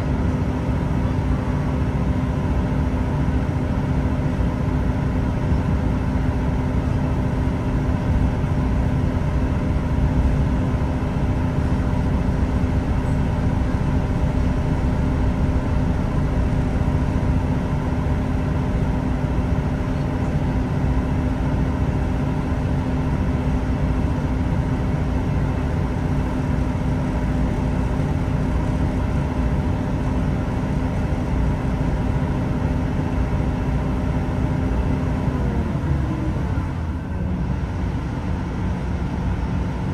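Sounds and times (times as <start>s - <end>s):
constant hum: 0.0s - 39.9s
diesel engine drone: 0.0s - 39.9s
train rumbling on track: 0.0s - 39.9s.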